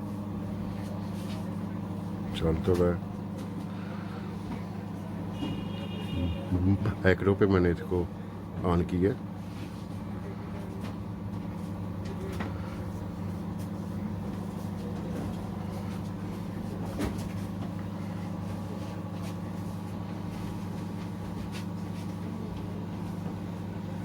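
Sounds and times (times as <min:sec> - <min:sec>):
microwave oven humming: 0:00.0 - 0:24.0.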